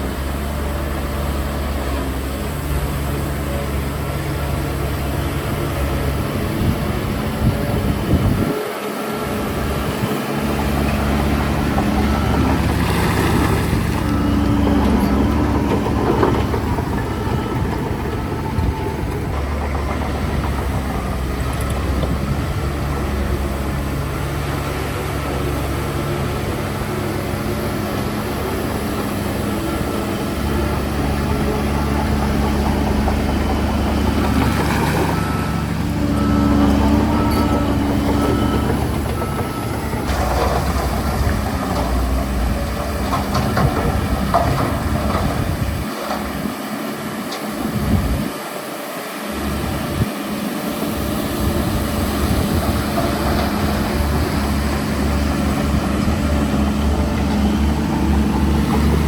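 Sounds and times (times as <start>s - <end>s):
construction machine engine rumbling: 0.0s - 59.0s.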